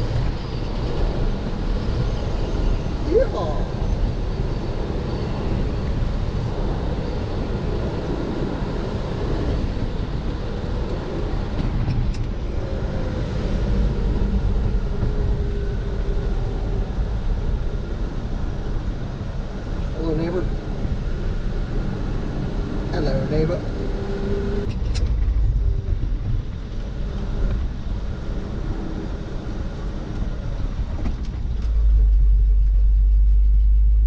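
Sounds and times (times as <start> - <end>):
truck engine and tyres rumbling: 0.0 - 34.0.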